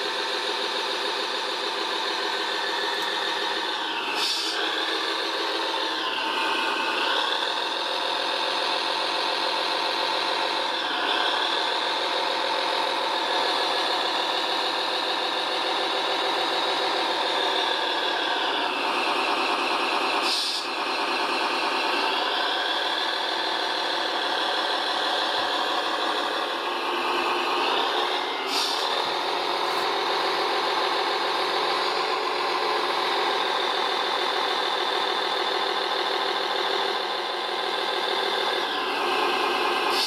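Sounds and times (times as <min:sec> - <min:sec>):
small motors and gears whining: 0:00.0 - 0:40.0.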